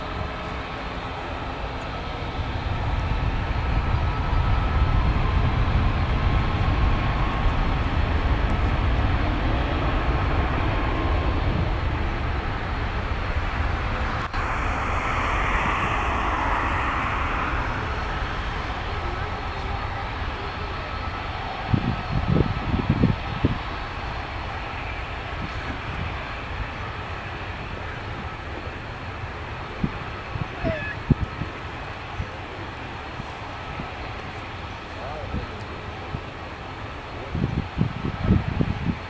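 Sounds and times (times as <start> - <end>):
jet engine hissy rush: 0.0 - 39.0
jet engines deep rumble: 0.0 - 39.0.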